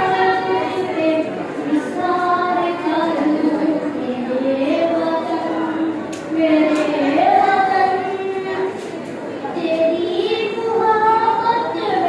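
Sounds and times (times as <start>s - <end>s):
boy singing into microphone: 0.0s - 12.0s.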